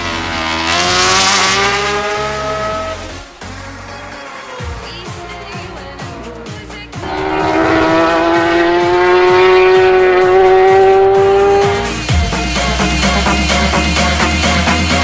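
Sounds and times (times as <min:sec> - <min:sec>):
motorcycle engine revving: 0:00.0 - 0:15.0
music with steady beat: 0:00.9 - 0:15.0.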